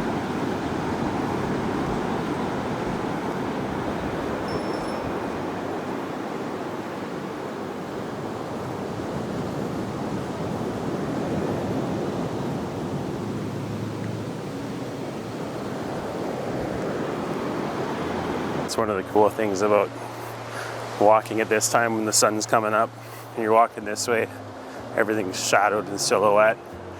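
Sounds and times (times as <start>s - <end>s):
waves breaking on a beach: 0.0s - 26.9s.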